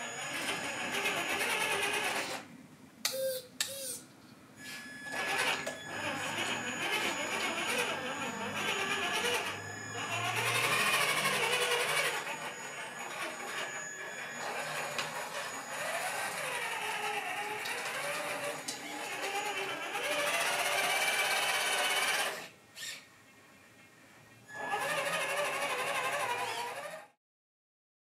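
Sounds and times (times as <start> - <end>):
toy car electric motor whirring: 0.0 - 2.5, 3.1 - 4.0, 4.7 - 23.1, 24.5 - 27.2.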